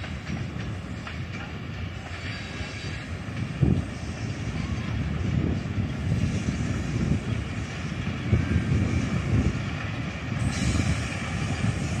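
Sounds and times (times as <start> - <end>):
distant locomotive drone: 0.0 - 12.0
wind buffeting microphone: 0.0 - 12.0.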